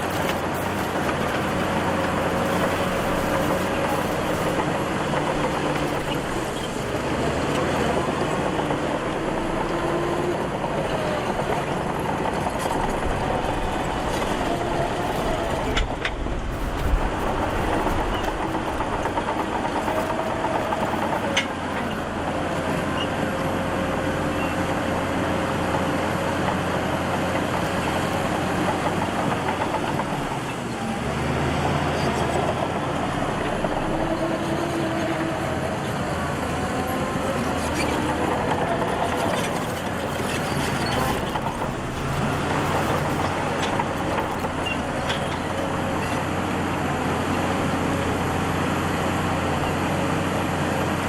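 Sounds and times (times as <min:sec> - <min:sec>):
diesel machinery engine running: 0:00.0 - 0:51.0.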